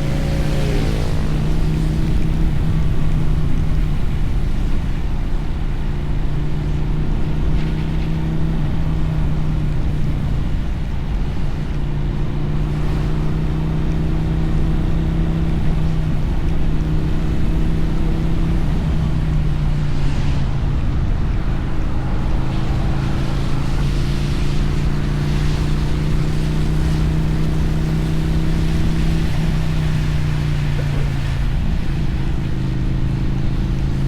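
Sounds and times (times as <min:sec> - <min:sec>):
motorcycle engine cruising: 0:00.0 - 0:34.0
wind noise: 0:00.0 - 0:34.0.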